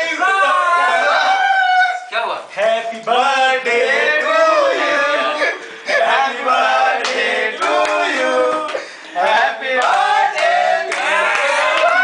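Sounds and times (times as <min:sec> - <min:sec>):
young men shouting and singing: 0:00.0 - 0:02.0, 0:02.6 - 0:12.0.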